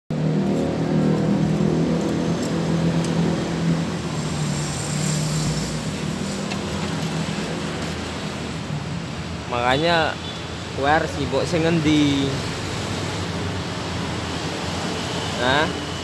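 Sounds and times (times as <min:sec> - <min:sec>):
street traffic: 0:00.1 - 0:16.0.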